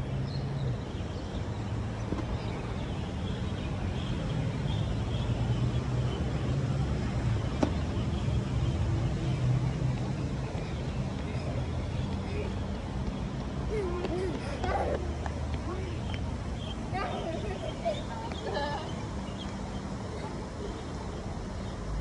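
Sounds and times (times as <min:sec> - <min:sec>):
passing cars hum: 0:00.0 - 0:22.0.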